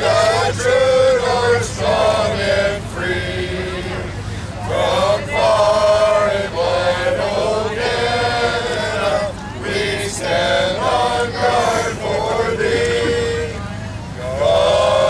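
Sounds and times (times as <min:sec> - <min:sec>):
group singing in chorus: 0:00.0 - 0:15.0.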